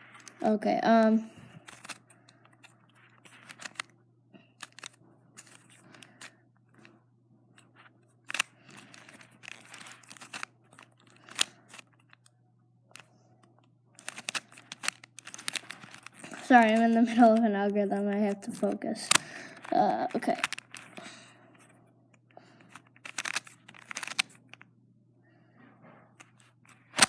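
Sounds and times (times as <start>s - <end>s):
plastic puzzle clicks and scrapes: 0.0s - 12.3s, 12.9s - 24.7s, 25.6s - 27.0s.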